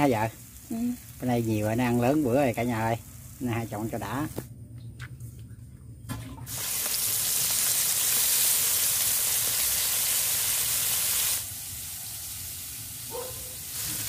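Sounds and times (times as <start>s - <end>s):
deep-frying in hot oil sizzle: 0.0s - 4.5s, 6.4s - 14.0s.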